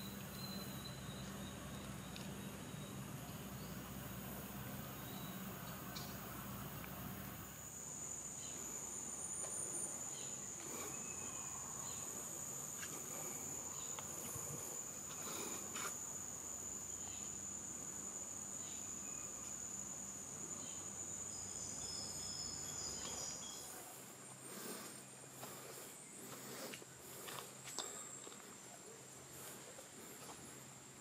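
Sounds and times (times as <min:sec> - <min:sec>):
insects buzzing high-pitched: 0:00.0 - 0:28.5
faint chirps: 0:00.0 - 0:30.7.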